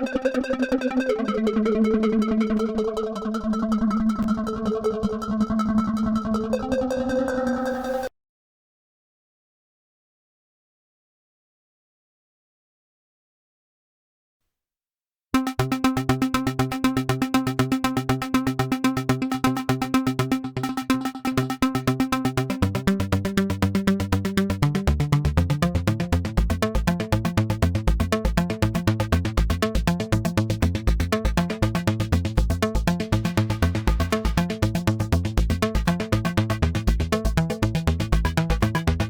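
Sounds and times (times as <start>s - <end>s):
fast synth arpeggio: 0.0s - 8.1s, 15.4s - 39.0s
synth bass line: 0.0s - 8.1s, 15.4s - 39.0s.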